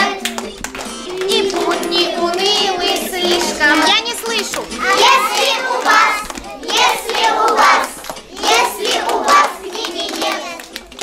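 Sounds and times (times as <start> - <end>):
children singing: 0.0 - 10.7
children clapping: 0.0 - 11.0.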